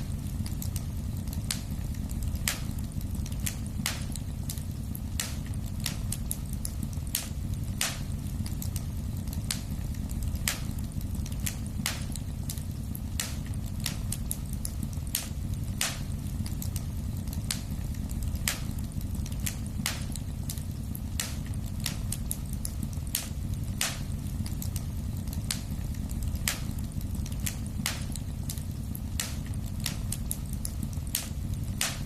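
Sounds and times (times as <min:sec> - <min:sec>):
low rumble of flames: 0:00.0 - 0:32.0
wood fire crackling: 0:00.0 - 0:32.0.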